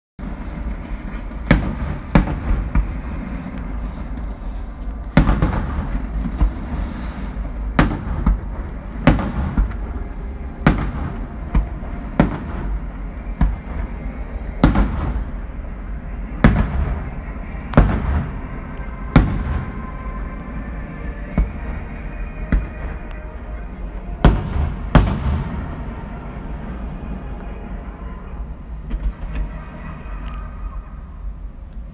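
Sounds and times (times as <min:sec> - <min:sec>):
distant fireworks bangs: 0:00.2 - 0:30.0.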